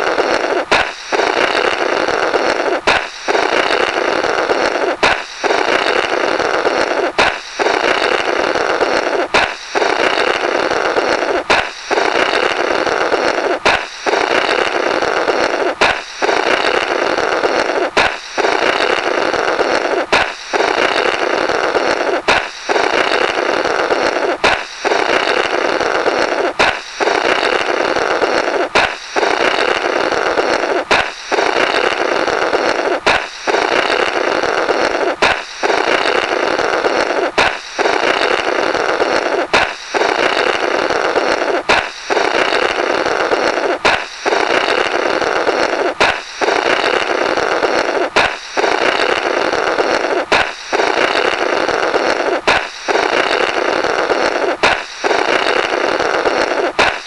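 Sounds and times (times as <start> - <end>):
balloon popping: 0.0 - 57.0
person blowing through burst rubber: 0.0 - 57.0.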